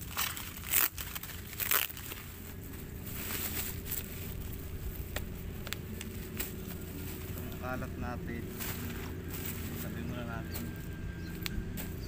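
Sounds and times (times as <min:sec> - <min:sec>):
packaging rustling and scraping: 0:00.0 - 0:07.6, 0:08.5 - 0:10.9
steady low rumble: 0:00.0 - 0:12.0.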